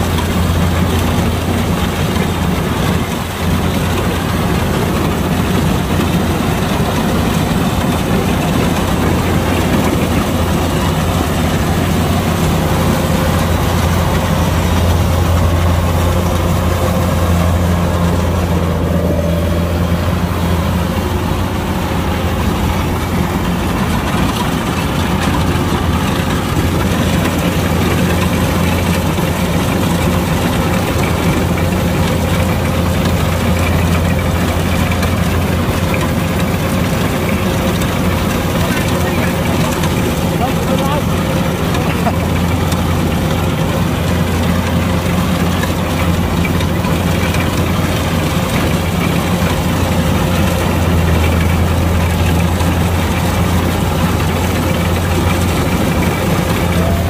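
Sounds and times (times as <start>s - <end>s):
diesel engine running: 0.0s - 57.0s
machinery noise: 0.0s - 57.0s.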